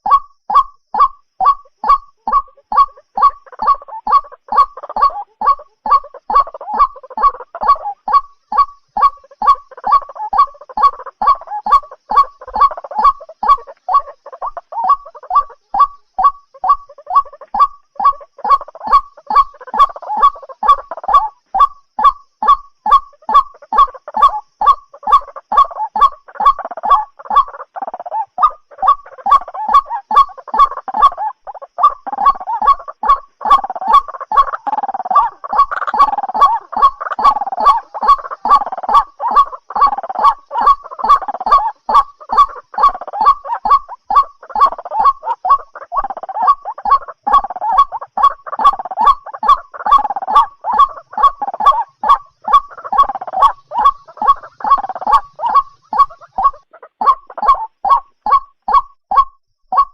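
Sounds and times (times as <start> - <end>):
rough chattering calls: 0.0 - 59.9
waterhen harsh calls: 0.0 - 59.9.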